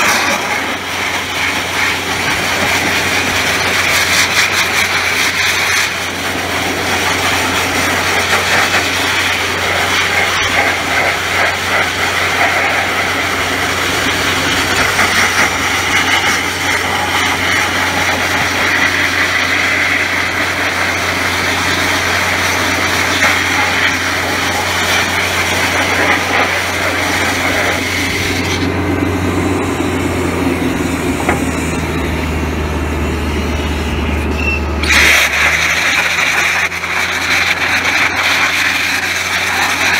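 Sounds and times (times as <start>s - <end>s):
air compressor drone: 0.0s - 39.9s.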